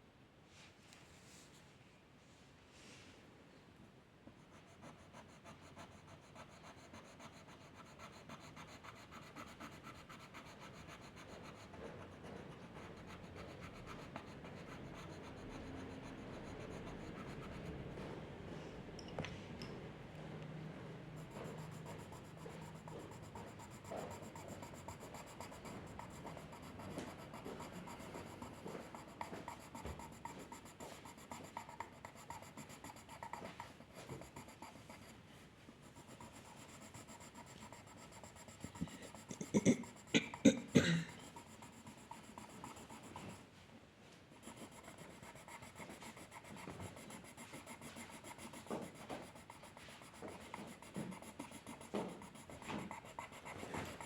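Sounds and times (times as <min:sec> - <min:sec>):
pencil scratching on paper: 0:04.4 - 0:18.2, 0:21.1 - 0:35.2, 0:35.8 - 0:43.5, 0:44.3 - 0:54.0.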